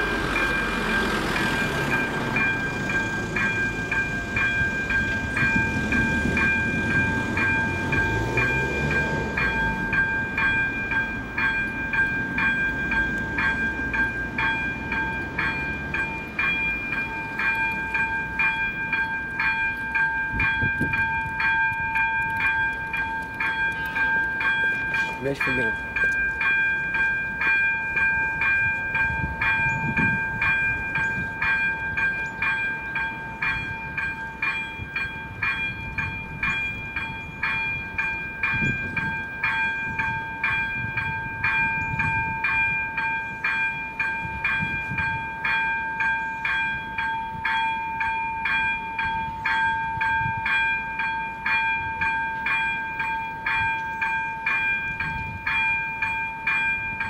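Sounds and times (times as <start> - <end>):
level-crossing warning bell ringing: 0.0 - 57.0.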